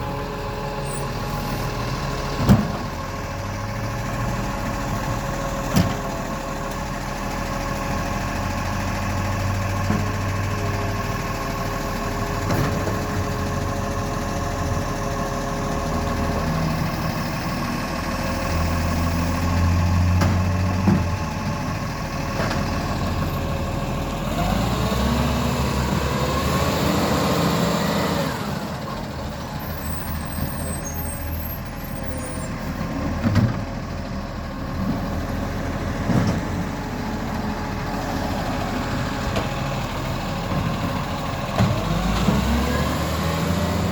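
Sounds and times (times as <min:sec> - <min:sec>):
garbage truck engine running: 0:00.0 - 0:43.9.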